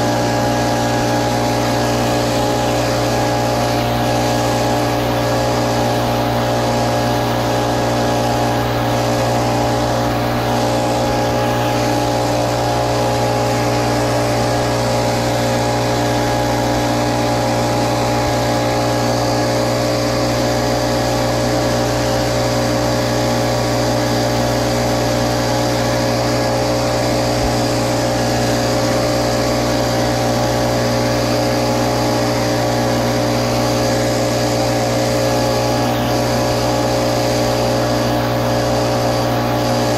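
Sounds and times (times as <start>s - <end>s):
blower fan rushing: 0.0s - 39.9s
leaf blower engine drone: 0.0s - 39.9s.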